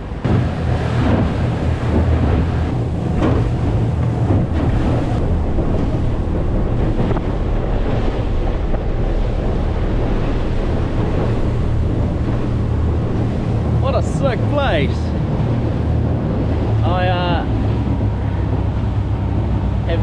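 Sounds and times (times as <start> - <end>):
outboard motor running: 0.0 - 20.0
water rushing: 0.0 - 20.0
wind buffeting microphone: 0.0 - 20.0.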